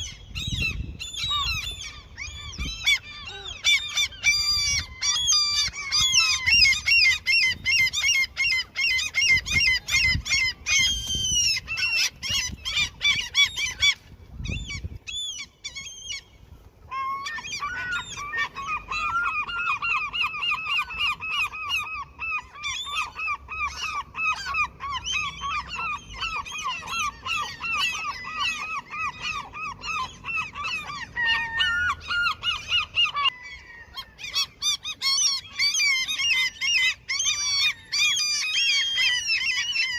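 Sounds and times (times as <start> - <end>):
gulls calling: 0.0 - 39.9.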